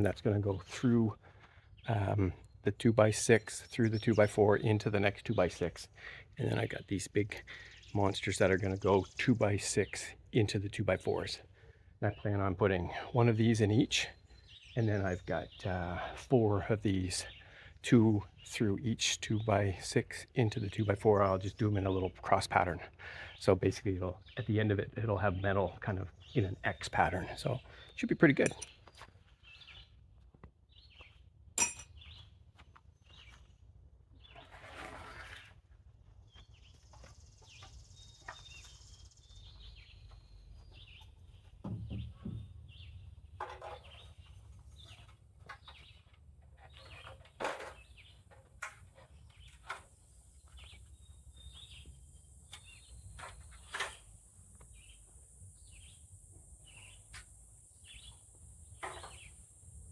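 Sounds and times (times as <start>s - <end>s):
birds chirping: 0.0s - 30.0s, 36.2s - 59.9s.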